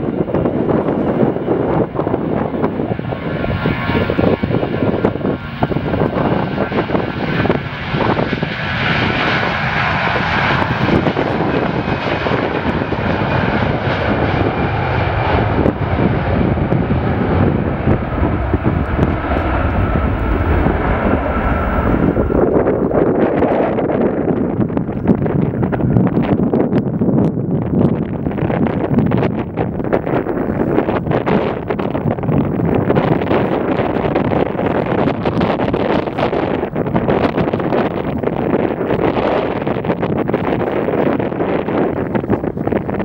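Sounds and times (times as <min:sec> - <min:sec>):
jet engine whine: 0:00.0 - 0:43.0
low rumble: 0:00.0 - 0:43.0.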